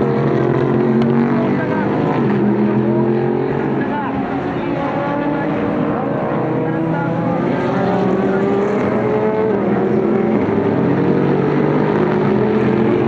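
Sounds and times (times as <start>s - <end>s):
race car engines running: 0.0s - 13.0s.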